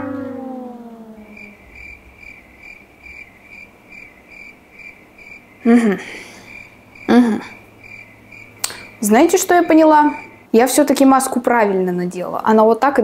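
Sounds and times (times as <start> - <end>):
cricket chirping: 0.0 - 10.5.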